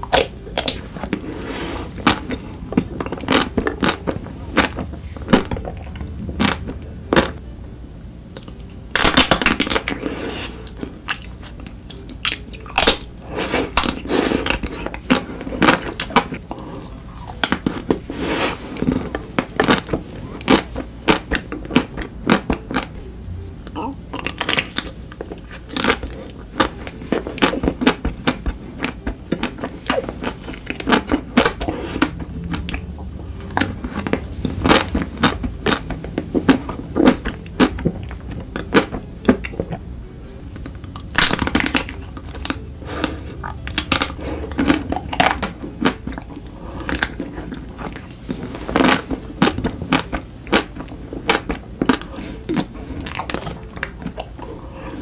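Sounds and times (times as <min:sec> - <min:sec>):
chewing chocolate crunches: 0:00.0 - 0:07.4, 0:08.4 - 0:23.0, 0:23.7 - 0:39.9, 0:40.5 - 0:55.0.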